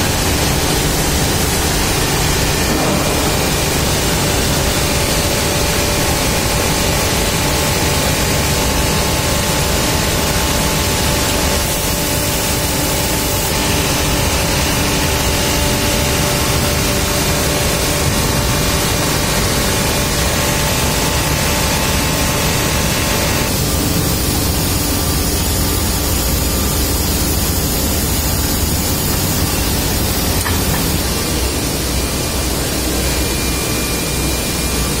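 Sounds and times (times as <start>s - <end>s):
loud machinery din: 0.0s - 35.0s
steady machine hums: 0.0s - 35.0s.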